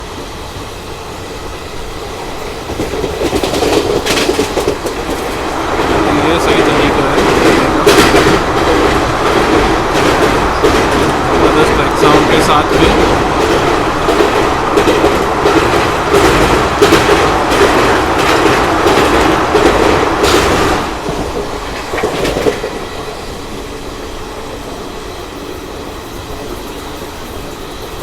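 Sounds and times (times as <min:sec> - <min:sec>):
steady train rumble: 0:00.0 - 0:28.0
train rattling over bridge: 0:00.0 - 0:28.0.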